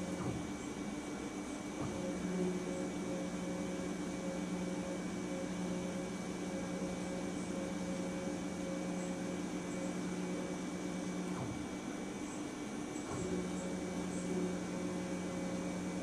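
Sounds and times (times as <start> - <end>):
milling machine motor humming: 0.0 - 16.0.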